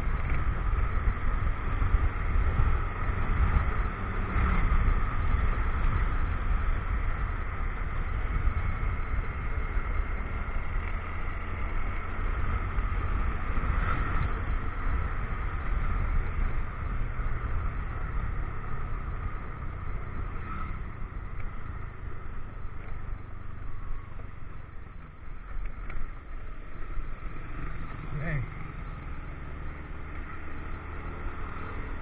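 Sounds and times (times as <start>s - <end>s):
wind rumble on microphone: 0.0s - 27.3s
motorcycle engine: 0.0s - 32.0s.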